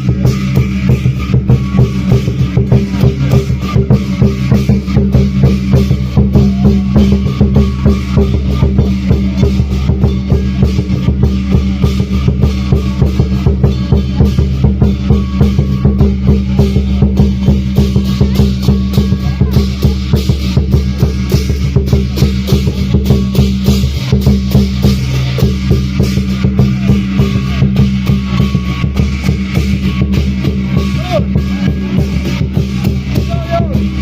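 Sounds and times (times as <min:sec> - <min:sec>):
drums and cymbals fast beat: 0:00.0 - 0:34.0.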